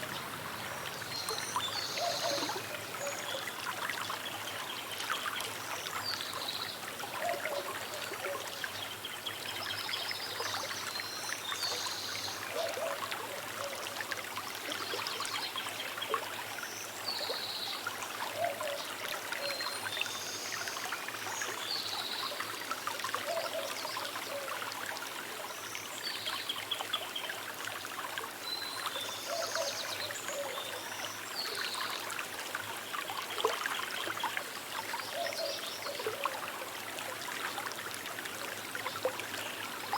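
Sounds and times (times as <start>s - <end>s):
river trickling: 0.0s - 39.9s.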